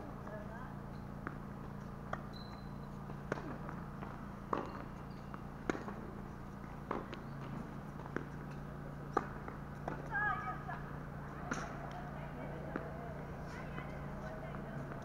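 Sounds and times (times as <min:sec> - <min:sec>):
steady low hum: 0:00.0 - 0:15.0
tennis ball being struck: 0:01.2 - 0:15.0.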